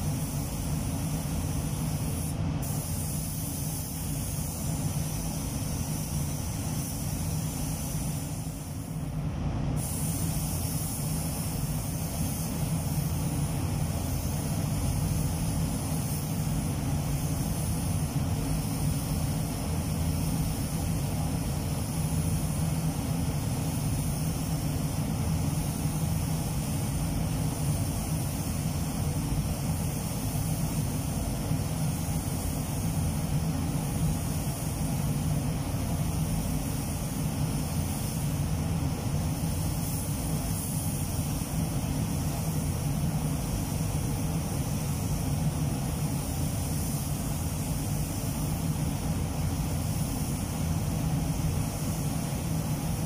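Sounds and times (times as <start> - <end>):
spray gun hissing: 0.0 - 53.0
steady low hum: 0.0 - 53.0.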